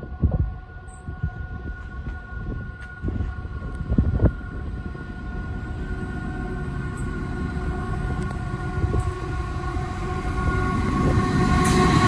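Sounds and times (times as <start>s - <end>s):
diesel locomotive engines rumbling: 0.0s - 12.0s
train horn chord: 0.0s - 12.0s.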